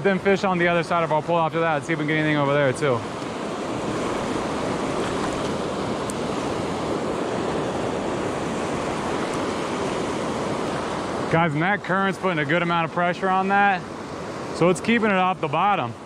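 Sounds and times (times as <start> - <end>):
river rushing over rocks: 0.4 - 15.9.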